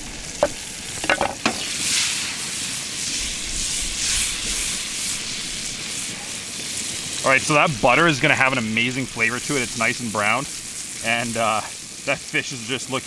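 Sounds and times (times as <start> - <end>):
fish sizzling in a frying pan: 0.0 - 13.0.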